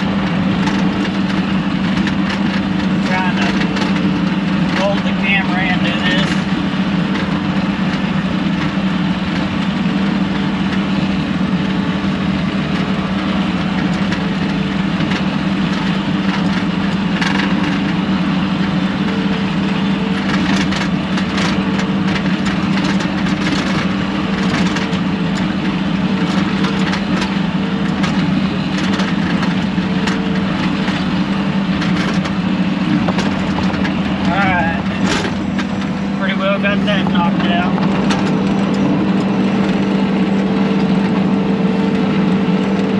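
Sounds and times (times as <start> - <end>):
diesel engine running under load: 0.0 - 42.9
sharp cracks and clatter: 0.0 - 42.9.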